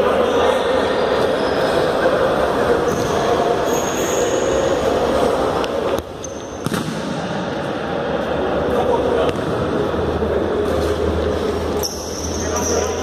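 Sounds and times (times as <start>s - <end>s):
futsal game din in sports hall: 0.0s - 13.0s.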